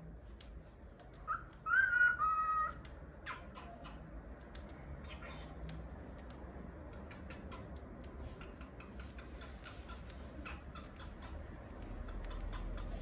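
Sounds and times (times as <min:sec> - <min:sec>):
bird husking seeds clicking: 0:00.3 - 0:13.0.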